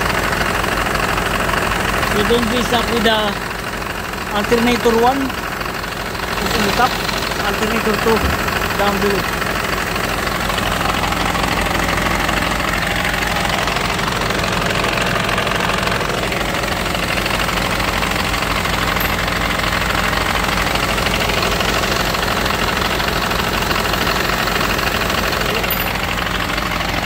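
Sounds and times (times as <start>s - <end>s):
bus engine idling: 0.0s - 27.0s.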